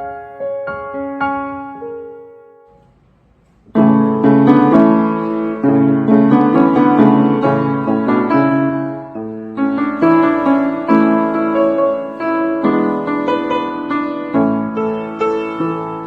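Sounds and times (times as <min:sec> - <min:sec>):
solo piano playing: 0:00.0 - 0:03.0, 0:03.7 - 0:16.0.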